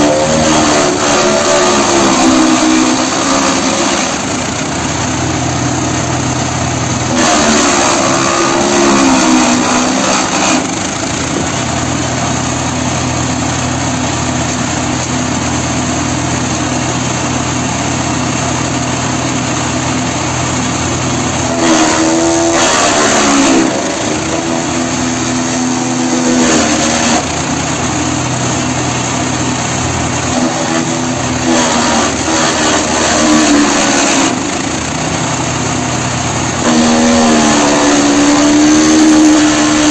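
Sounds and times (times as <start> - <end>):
shredder engine running: 0.0 - 39.9.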